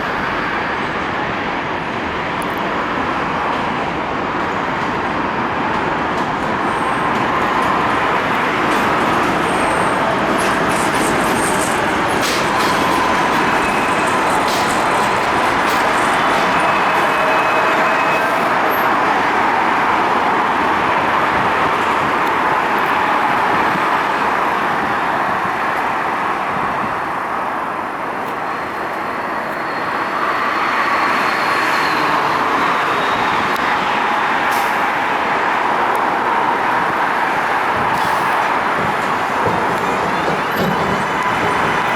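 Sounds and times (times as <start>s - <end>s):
subway train wheel-on-rail noise: 0.0s - 41.9s.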